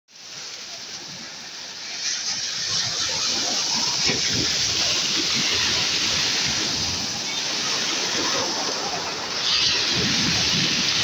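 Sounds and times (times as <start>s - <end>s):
sea waves breaking on shore: 0.1s - 11.0s.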